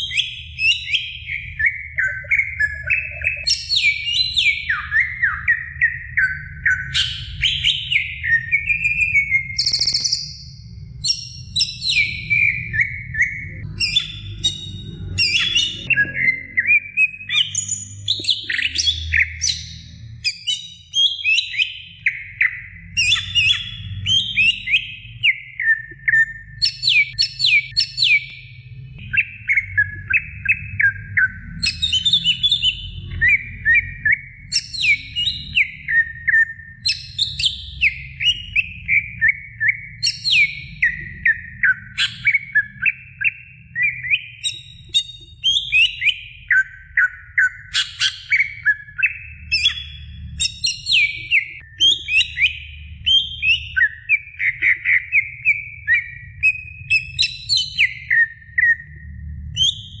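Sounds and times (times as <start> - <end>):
bird singing chirps and whistles: 0.0 - 60.0.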